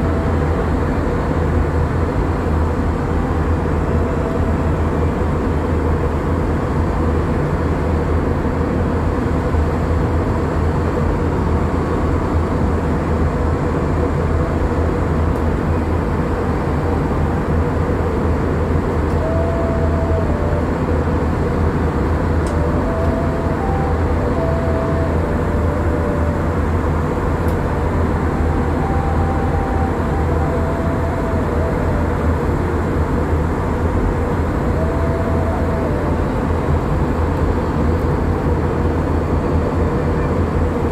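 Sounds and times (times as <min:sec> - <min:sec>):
airliner cabin noise: 0:00.0 - 0:40.9.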